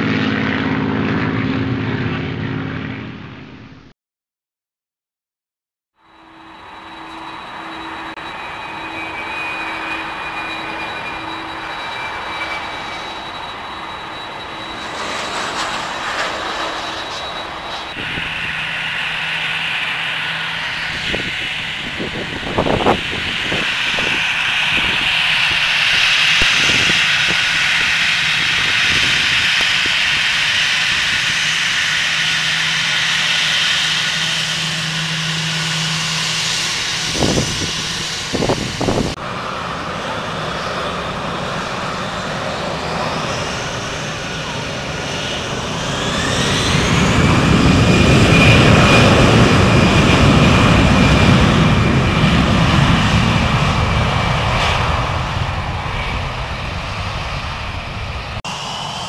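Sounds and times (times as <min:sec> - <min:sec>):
jet engines roaring: 0:00.0 - 0:03.9, 0:06.0 - 0:59.0.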